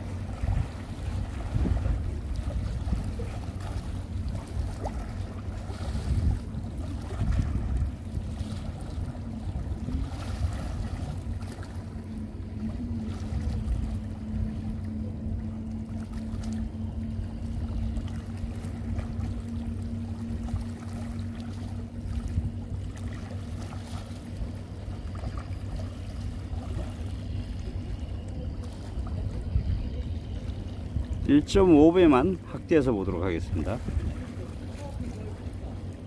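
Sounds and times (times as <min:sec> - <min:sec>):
steady low hum: 0:00.0 - 0:36.0
water lapping: 0:00.0 - 0:36.0
wind rumbling on microphone: 0:00.0 - 0:36.0.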